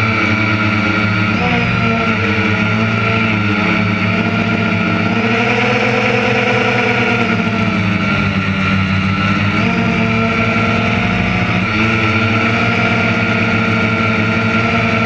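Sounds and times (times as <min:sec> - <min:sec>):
machinery engine running: 0:00.0 - 0:15.0.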